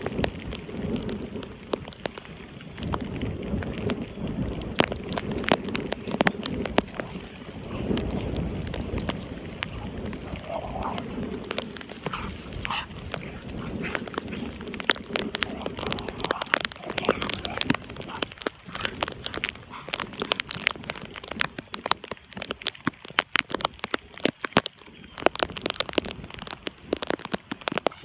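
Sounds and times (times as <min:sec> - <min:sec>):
rain drops ticking: 0:00.0 - 0:28.0.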